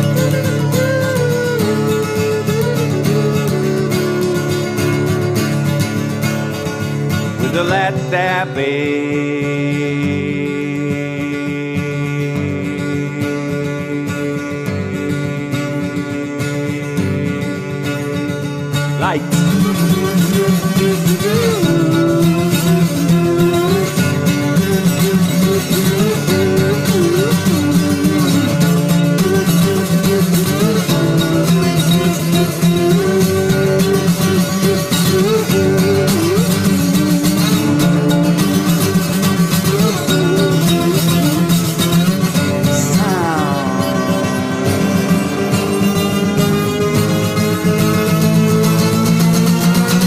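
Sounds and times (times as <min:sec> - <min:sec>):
acoustic guitar playing: 0:00.0 - 0:50.0.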